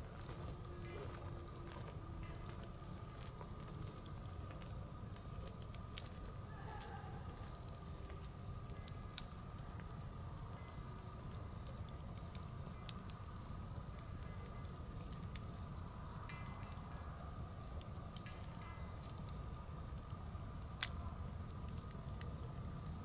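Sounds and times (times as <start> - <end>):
bonfire crackling and popping: 0.0 - 23.0.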